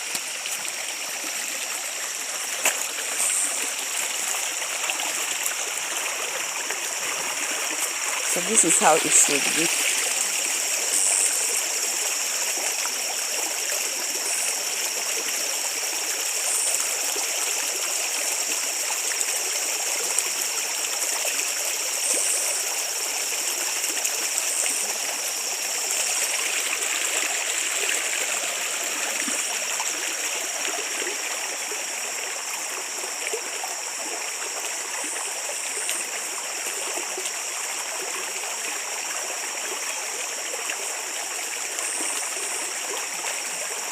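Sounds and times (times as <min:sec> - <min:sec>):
small stream running: 0:00.0 - 0:43.9.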